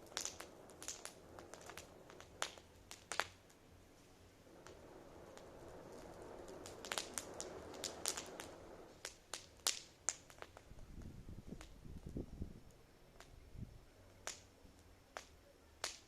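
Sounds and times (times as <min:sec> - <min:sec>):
wood fire crackling and popping: 0:00.0 - 0:13.4, 0:14.0 - 0:16.0
faint low rumble: 0:00.0 - 0:15.8.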